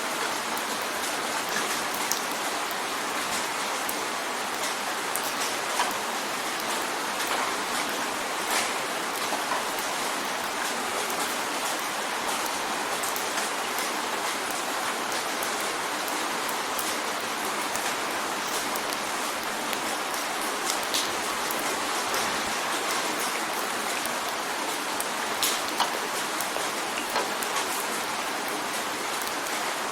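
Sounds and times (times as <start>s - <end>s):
rain hissing: 0.0s - 29.9s
raindrops ticking on glass: 0.3s - 29.8s.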